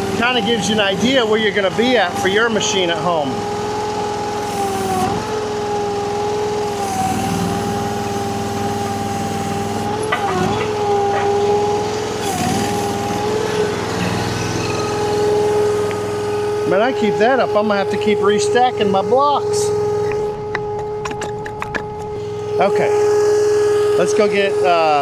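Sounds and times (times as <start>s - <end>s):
engine and hydraulics whining: 0.0s - 25.0s.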